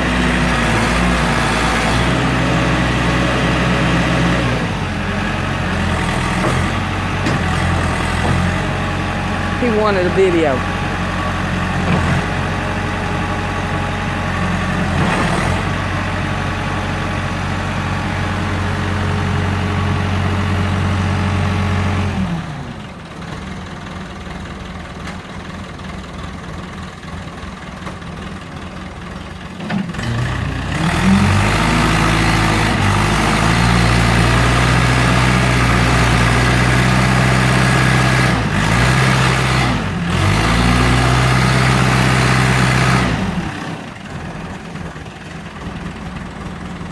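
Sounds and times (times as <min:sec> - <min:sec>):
heavy farm vehicle engines: 0:00.0 - 0:46.9.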